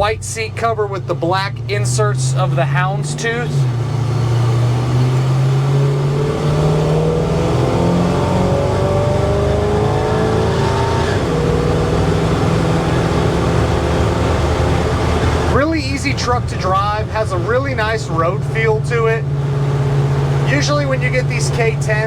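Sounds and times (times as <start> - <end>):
pickup truck engine accelerating: 0.0 - 22.0
road noise: 0.0 - 22.0.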